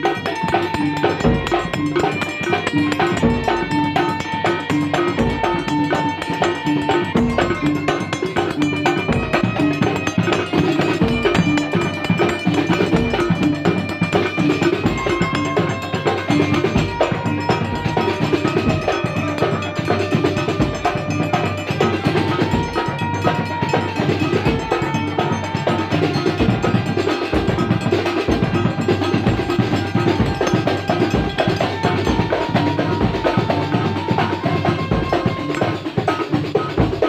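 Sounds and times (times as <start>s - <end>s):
hand-drum percussion: 0.0s - 37.0s
ringing metal tones: 0.0s - 37.0s.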